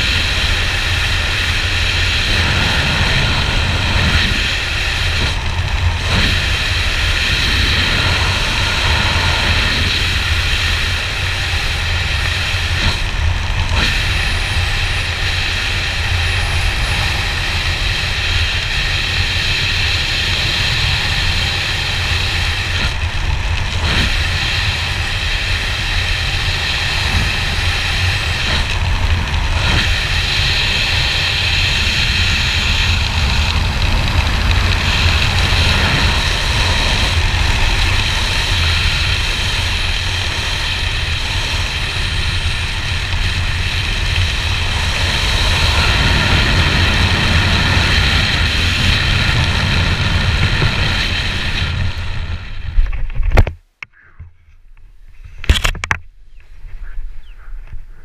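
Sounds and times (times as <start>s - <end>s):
wind buffeting microphone: 0.0s - 53.5s, 55.2s - 58.0s.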